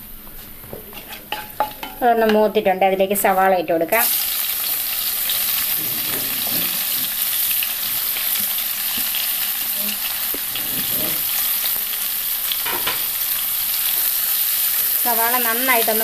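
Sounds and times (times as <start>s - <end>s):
onions sizzling in a pan: 0.6s - 16.0s.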